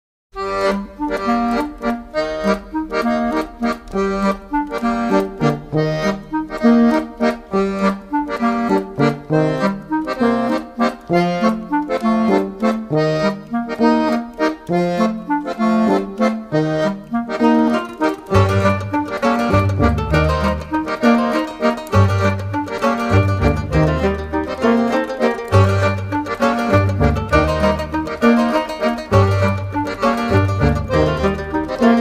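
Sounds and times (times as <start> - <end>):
accordion music: 0.3 - 32.0.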